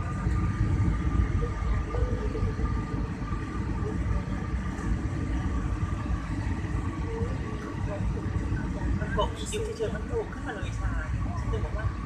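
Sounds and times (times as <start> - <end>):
faint steady tones: 0.0 - 12.0
jet cabin engine rumble: 0.0 - 12.0.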